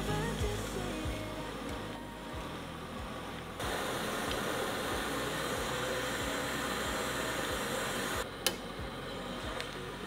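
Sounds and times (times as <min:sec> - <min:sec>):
boiling water hiss: 0:00.0 - 0:08.3.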